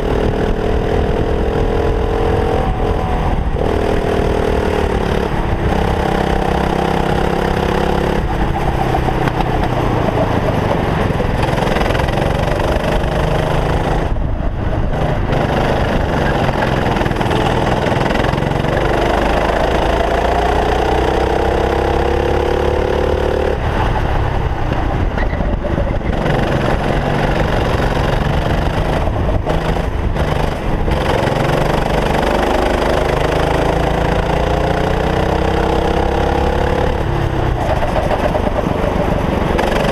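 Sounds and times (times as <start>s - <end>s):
kart engine: 0.0s - 39.9s
wind and road noise: 0.0s - 39.9s.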